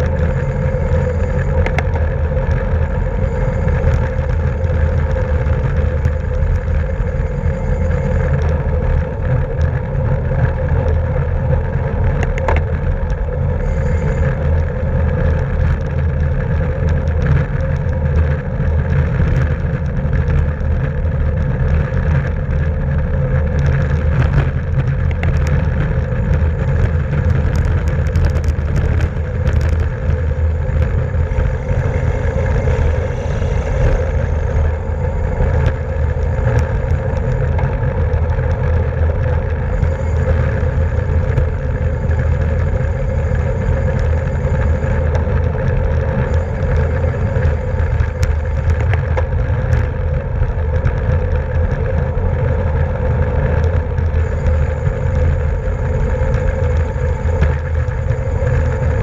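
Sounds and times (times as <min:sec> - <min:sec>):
light bicycle clicks: 0:00.0 - 0:59.0
wind and road noise: 0:00.0 - 0:59.0.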